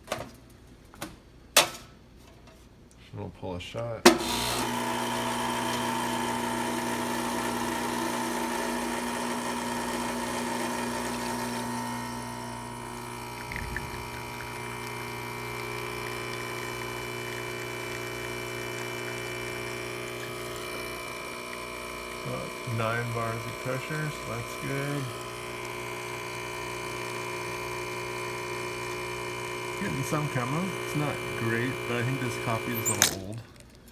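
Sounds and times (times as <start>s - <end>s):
espresso machine pump running: 4.1s - 33.7s.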